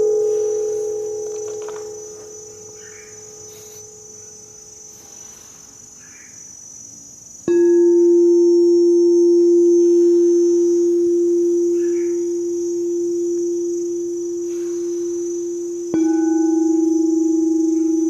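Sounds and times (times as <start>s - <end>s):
singing bowl struck: 0.0s - 4.2s, 7.5s - 18.0s
singing bowl ringing: 0.0s - 4.8s, 7.4s - 18.0s.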